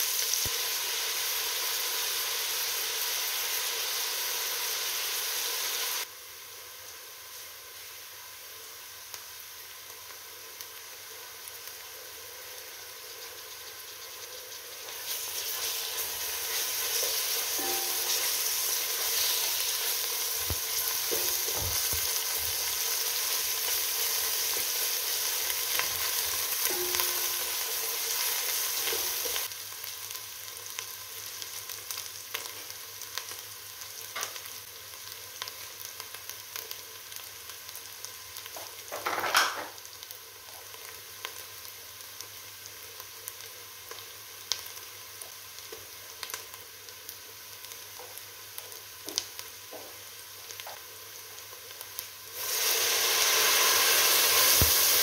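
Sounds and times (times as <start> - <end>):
onions sizzling in hot oil: 0.0 - 55.0.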